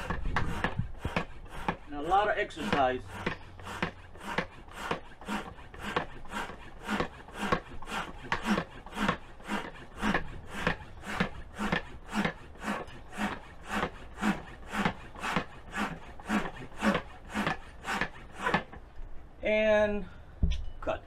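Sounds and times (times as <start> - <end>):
hand pump strokes pushing air: 0.0 - 18.9.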